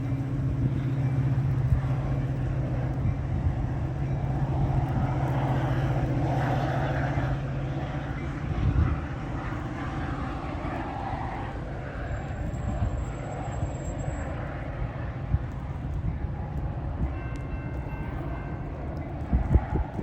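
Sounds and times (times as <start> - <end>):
train pulling away rumble: 0.0 - 19.8.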